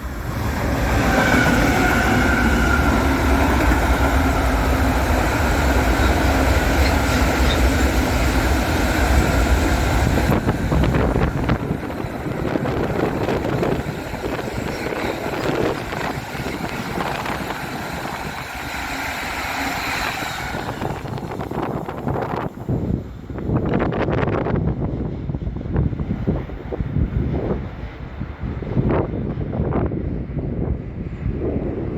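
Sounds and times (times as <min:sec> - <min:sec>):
train rumbling past: 0:00.0 - 0:31.9.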